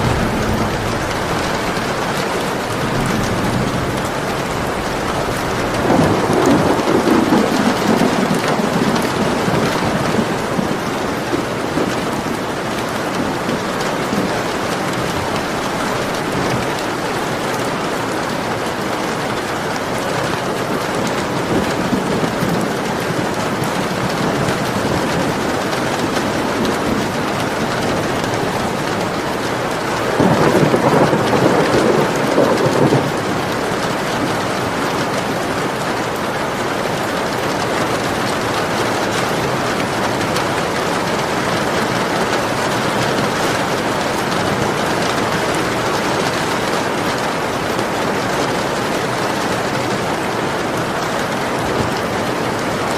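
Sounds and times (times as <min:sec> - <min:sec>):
steady rain falling: 0:00.0 - 0:52.9
thunder rolling: 0:00.0 - 0:52.9.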